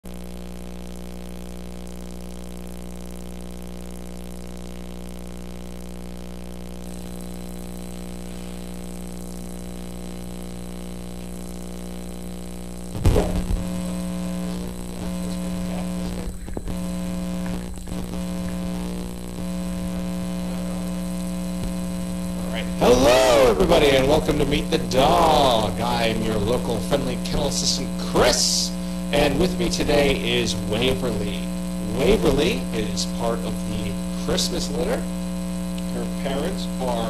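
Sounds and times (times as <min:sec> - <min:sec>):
electrical mains hum: 0:00.0 - 0:37.0.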